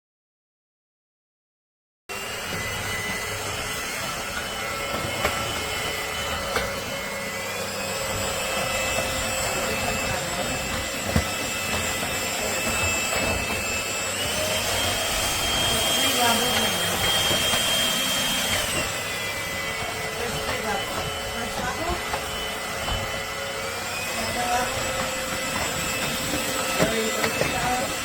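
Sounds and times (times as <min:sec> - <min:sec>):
stick vacuum motor whine: 0:02.1 - 0:28.0.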